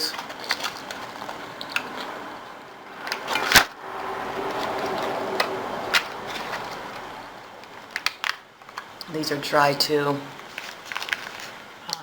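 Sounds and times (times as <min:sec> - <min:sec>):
rustling: 0:00.0 - 0:09.0, 0:10.3 - 0:11.9.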